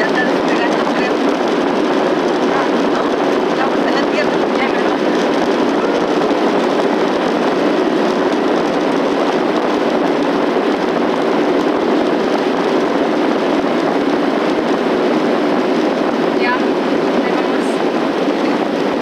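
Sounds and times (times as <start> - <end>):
jet engine and airflow in cabin: 0.0 - 19.0.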